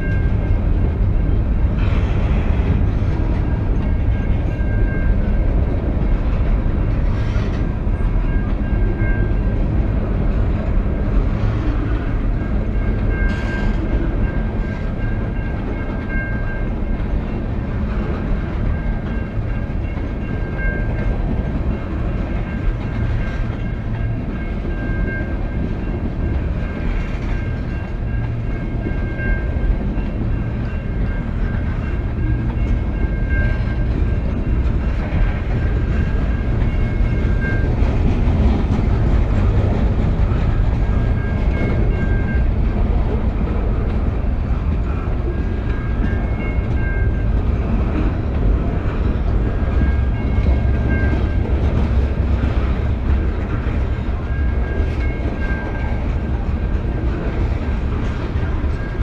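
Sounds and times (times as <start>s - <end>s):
train wheels rumbling on rails: 0.0s - 59.0s
wheels clacking on rail joints: 0.0s - 59.0s.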